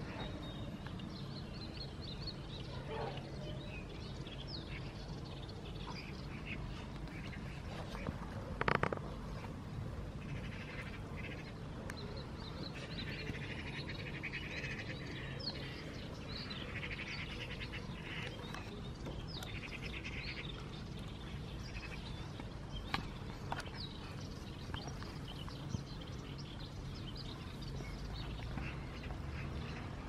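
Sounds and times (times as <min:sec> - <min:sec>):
low background noise: 0:00.0 - 0:30.0
small birds chirping and trilling: 0:00.0 - 0:30.0.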